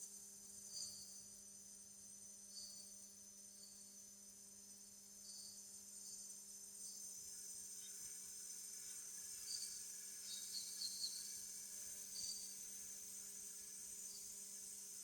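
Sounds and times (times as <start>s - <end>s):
insect chirps: 0.0s - 15.0s.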